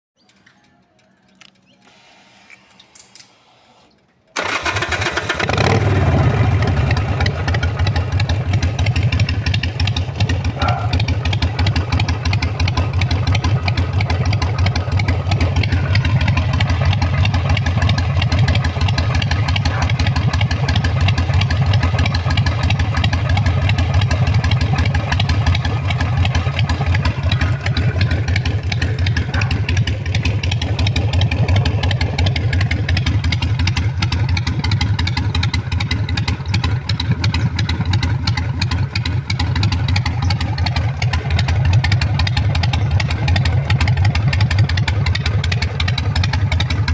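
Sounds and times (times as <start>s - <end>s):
motorcycle engine starting and idling: 0.2s - 46.9s.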